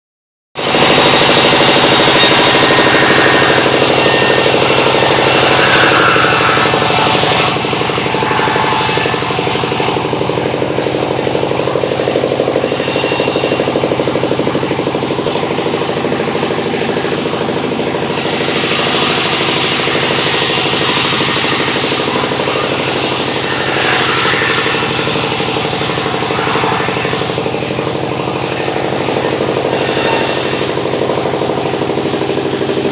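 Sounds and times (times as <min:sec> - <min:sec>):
sawmill saw cutting wood: 0:00.6 - 0:32.9.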